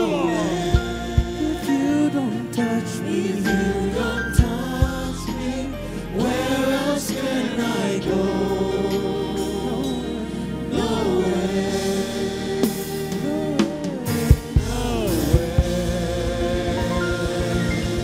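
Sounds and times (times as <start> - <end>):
gospel singing: 0.0 - 18.0
sustained keyboard chords: 0.0 - 18.0.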